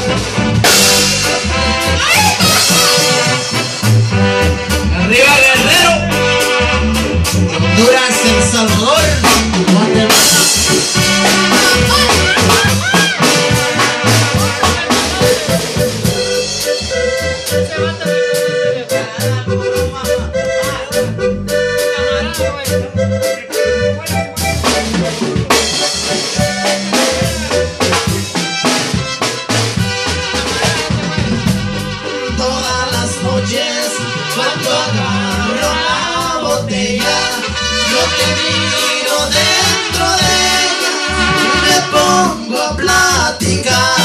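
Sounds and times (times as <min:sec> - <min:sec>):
drum kit beat with cymbals: 0:00.0 - 0:44.0
electronic keyboards: 0:00.0 - 0:44.0.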